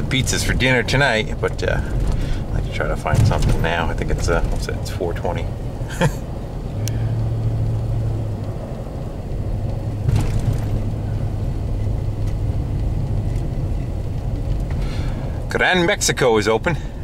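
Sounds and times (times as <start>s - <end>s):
tyres rumbling on snowy road: 0.0s - 17.0s
vehicle engine hum: 0.0s - 17.0s.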